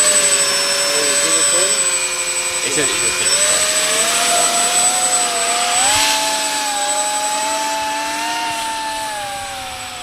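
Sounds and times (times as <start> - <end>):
hovercraft fans whining: 0.0 - 10.0.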